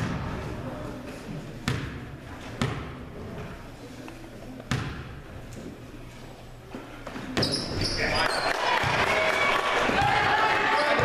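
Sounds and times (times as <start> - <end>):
crowd noise and voices: 0.0 - 11.0.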